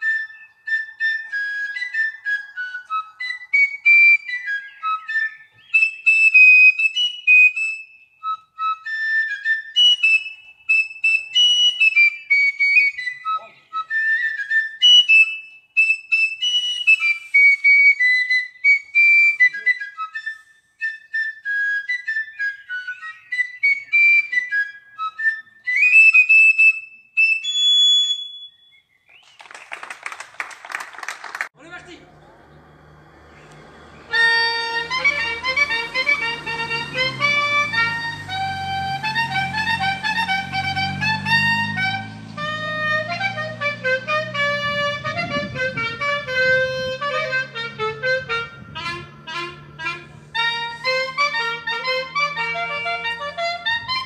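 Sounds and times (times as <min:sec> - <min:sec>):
fife melody: 0:00.0 - 0:27.6, 0:31.6 - 0:54.0.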